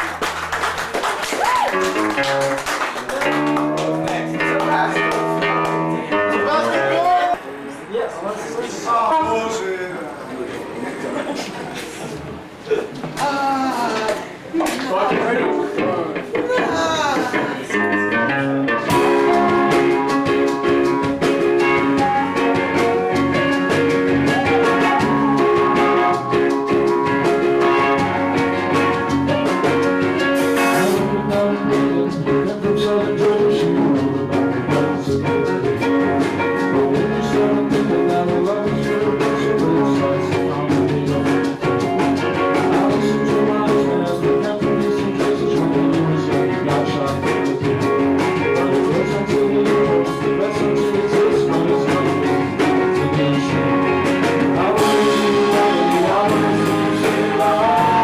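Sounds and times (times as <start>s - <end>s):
live band playing: 0.0s - 9.7s, 15.0s - 58.0s.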